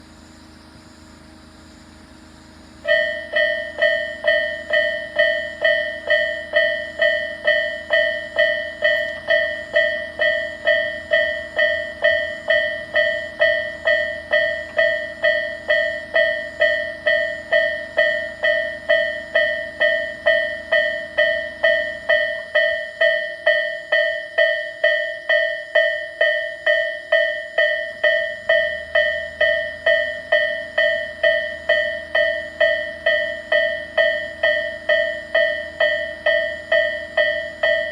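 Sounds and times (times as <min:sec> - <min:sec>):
level crossing warning bell: 0:02.8 - 0:37.9.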